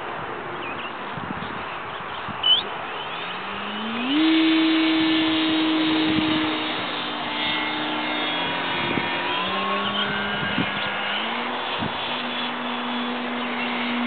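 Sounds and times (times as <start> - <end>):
model airplane motor buzzing: 2.5 - 14.0.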